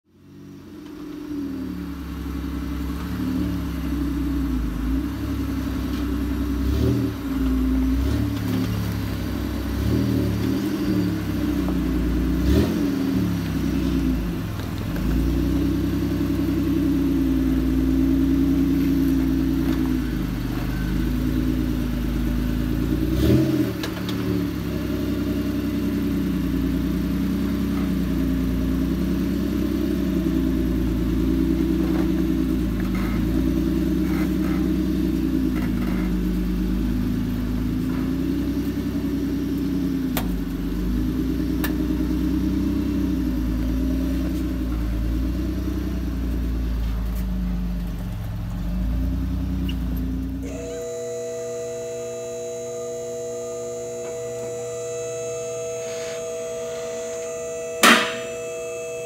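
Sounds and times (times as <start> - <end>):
engine revving: 0.8 - 59.0.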